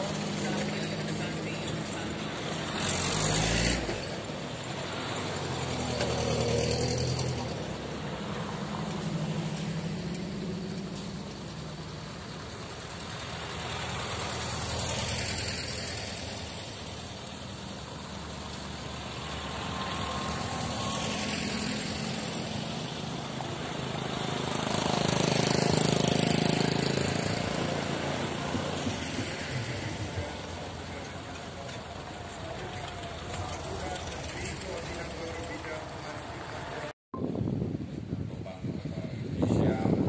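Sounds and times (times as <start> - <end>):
cars driving past: 0.0 - 36.9
steady engine hum: 0.0 - 36.9.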